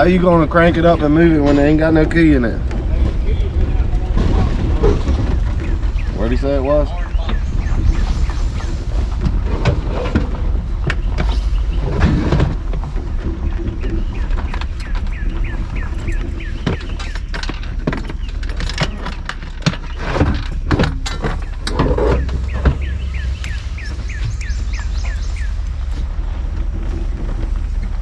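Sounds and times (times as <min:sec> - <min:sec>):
bird chirping: 0:00.0 - 0:27.9
low rumble: 0:00.0 - 0:28.0
sharp knocks and clatters: 0:00.0 - 0:28.0.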